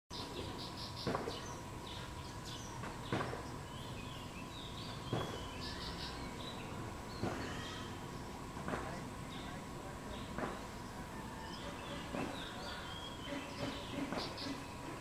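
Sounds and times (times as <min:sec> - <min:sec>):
outdoor background noise: 0:00.1 - 0:15.0
small birds chirping: 0:00.1 - 0:15.0.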